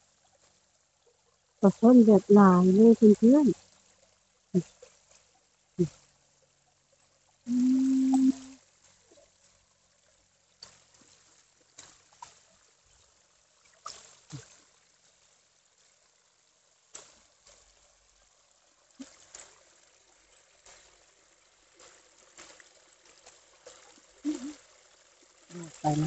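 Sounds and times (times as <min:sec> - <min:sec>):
water trickling over concrete: 0:00.0 - 0:26.0.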